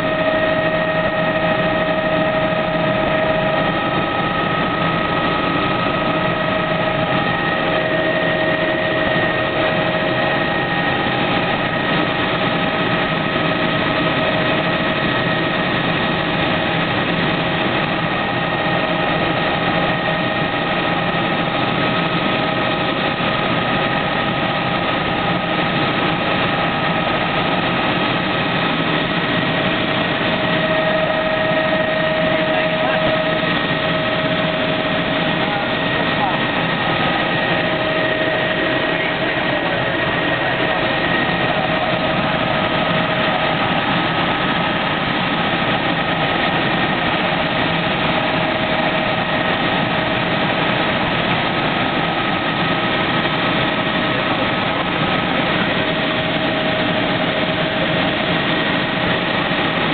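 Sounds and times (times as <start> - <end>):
helicopter engine and rotor noise: 0.0 - 59.9
steady whining tones: 0.0 - 59.9.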